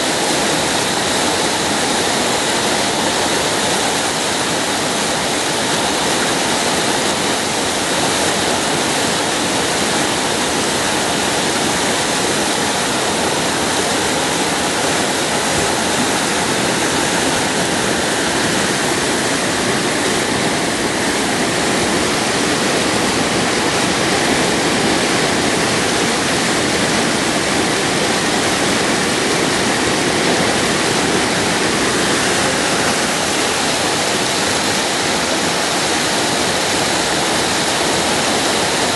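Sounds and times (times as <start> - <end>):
river water rushing through rapids: 0.0 - 38.9.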